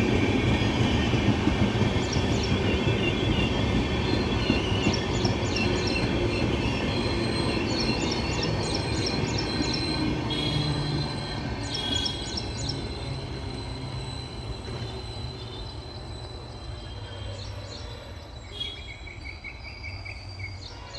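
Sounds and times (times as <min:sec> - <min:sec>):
birds chirping: 0:00.0 - 0:19.4
train rumbling past: 0:00.0 - 0:20.9.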